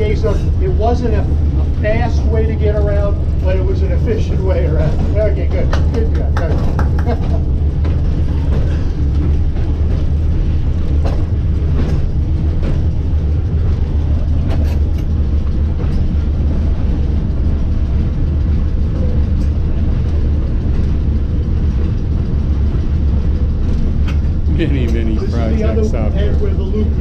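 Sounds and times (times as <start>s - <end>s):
streetcar rumbling on track: 0.0s - 27.0s.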